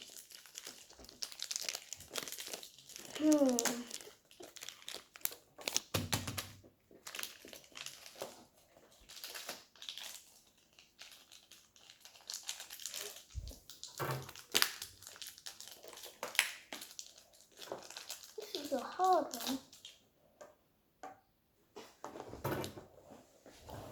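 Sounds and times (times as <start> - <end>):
packaging crackling and rustling: 0.0 - 20.0.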